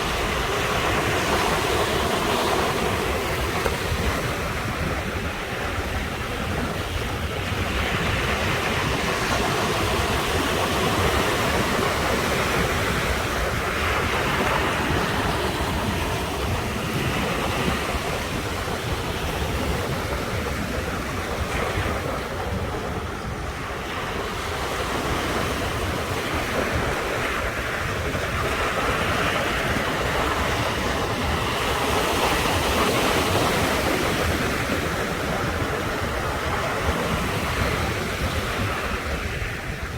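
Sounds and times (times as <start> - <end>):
ocean waves breaking on shore: 0.0 - 39.9
wind rumbling on microphone: 0.0 - 39.9.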